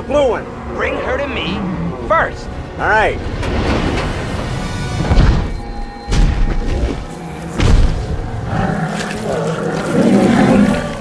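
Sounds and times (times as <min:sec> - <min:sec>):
dramatic orchestral film score: 0:00.0 - 0:11.0.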